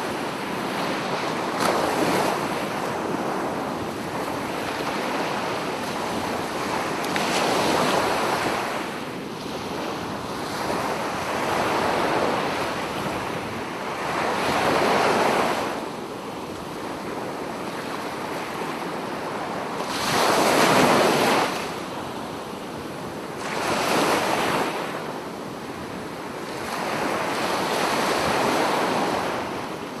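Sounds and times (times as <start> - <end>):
sea waves breaking on beach: 0.0 - 30.0.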